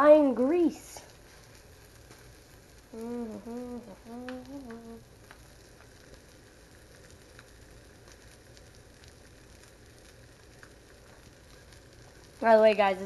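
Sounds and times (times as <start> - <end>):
fish frying sizzle: 0.0 - 13.0
grease popping and crackling: 0.2 - 13.0.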